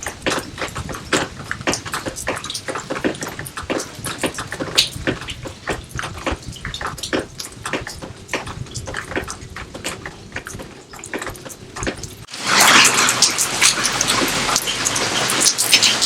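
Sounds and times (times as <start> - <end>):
water dripping and splashing: 0.0 - 16.0.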